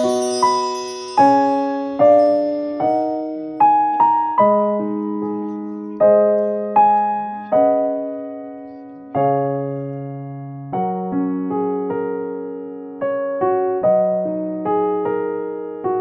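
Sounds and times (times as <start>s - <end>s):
slow piano-like keyboard music: 0.0s - 16.0s.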